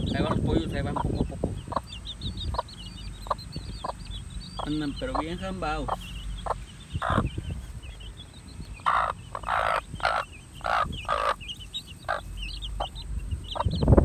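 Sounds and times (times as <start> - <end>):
chicks peeping: 0.0 - 14.0
hen clucking: 0.0 - 14.0.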